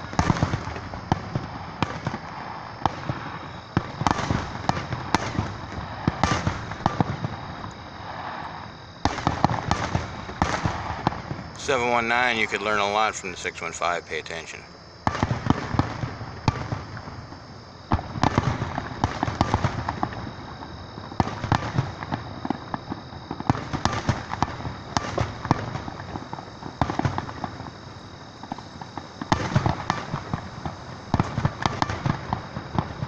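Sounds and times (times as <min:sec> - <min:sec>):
fireworks booming: 0:00.0 - 0:33.0
fireworks crackling: 0:00.0 - 0:33.0.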